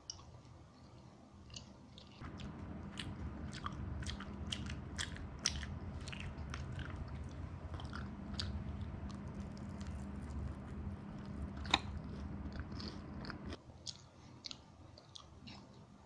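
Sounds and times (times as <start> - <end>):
person chewing crunchy food: 1.5 - 15.9.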